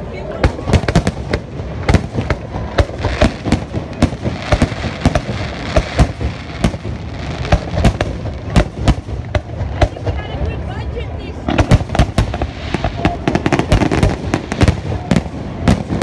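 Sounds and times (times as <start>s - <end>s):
fireworks bangs: 0.1s - 16.0s.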